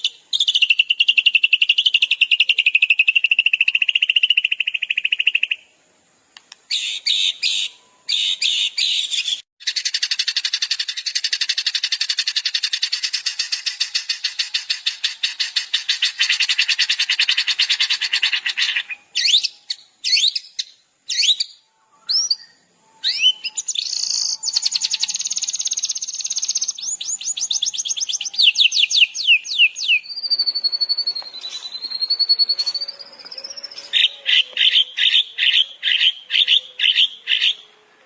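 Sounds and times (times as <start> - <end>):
songbird trills and chirps: 0.0 - 5.8, 6.5 - 38.0
bird wavering whistle: 6.7 - 37.7.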